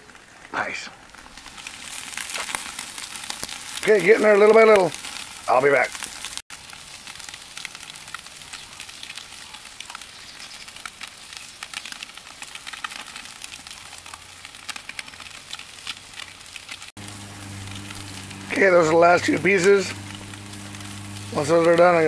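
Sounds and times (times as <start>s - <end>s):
chicken sizzling on a grill: 0.0s - 22.0s
crackles and pops: 0.0s - 22.0s.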